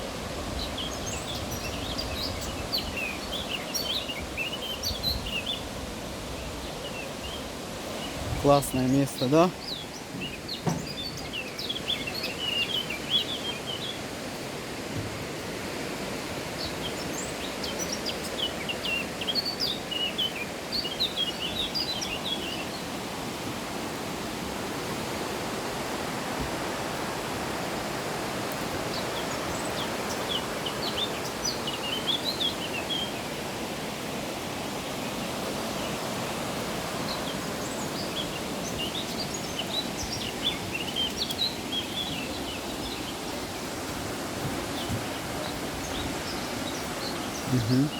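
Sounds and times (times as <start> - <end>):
small birds chirping: 0.0 - 15.8, 16.5 - 23.0, 27.2 - 47.9
running water: 0.0 - 47.9.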